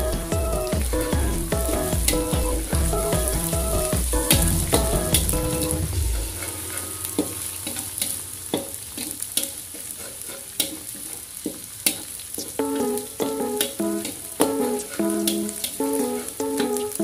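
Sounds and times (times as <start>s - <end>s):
food sizzling in hot oil: 1.8s - 17.0s.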